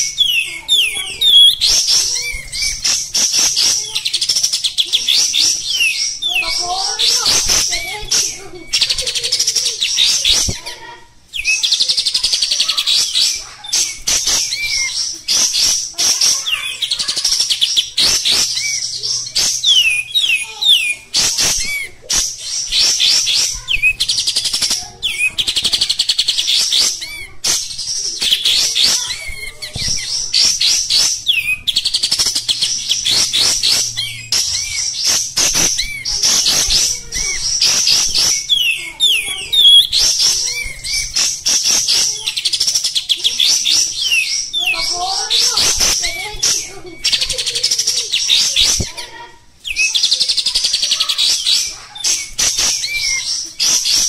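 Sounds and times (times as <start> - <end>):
bird singing chattering phrases: 0.0 - 54.0.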